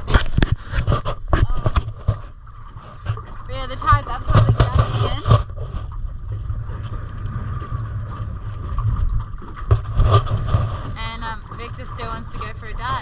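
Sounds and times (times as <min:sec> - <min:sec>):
water around boat hull: 0:00.0 - 0:13.0
wind rumble on microphone: 0:00.0 - 0:13.0.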